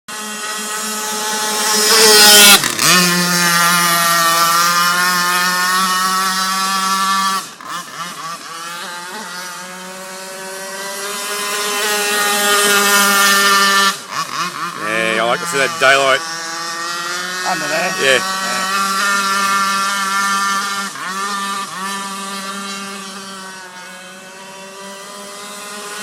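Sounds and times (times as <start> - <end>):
two-stroke boat engine revving: 0.1 - 26.0.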